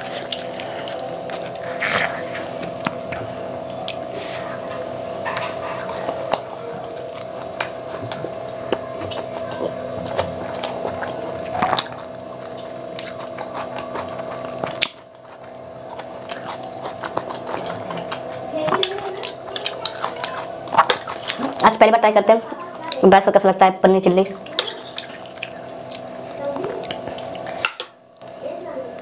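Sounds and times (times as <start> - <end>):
chewing and wet mouth sounds: 0.0 - 29.0
steady background hum: 0.0 - 29.0.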